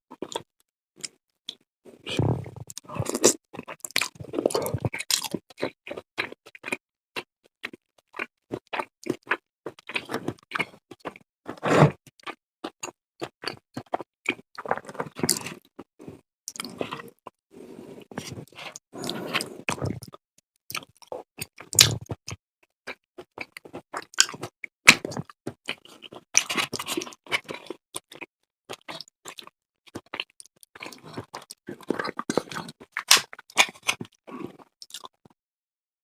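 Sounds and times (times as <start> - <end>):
wet chewing and smacking: 0.2 - 11.2, 12.2 - 17.0, 18.2 - 35.2.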